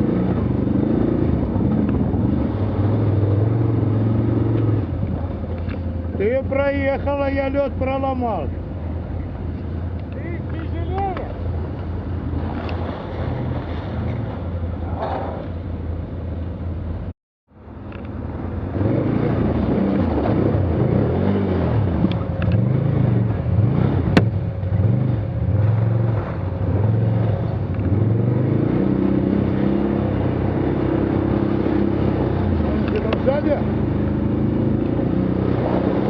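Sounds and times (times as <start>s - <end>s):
vehicle engine revving: 0.0s - 16.2s, 17.9s - 36.0s.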